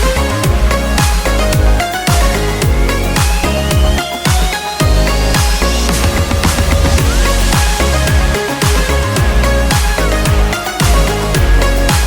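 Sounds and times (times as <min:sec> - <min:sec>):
heavy bass line: 0:00.0 - 0:04.0, 0:04.8 - 0:12.0
electronic dance music: 0:00.0 - 0:12.0
kick drum beat: 0:00.0 - 0:12.0
rising synth tone: 0:00.0 - 0:12.0.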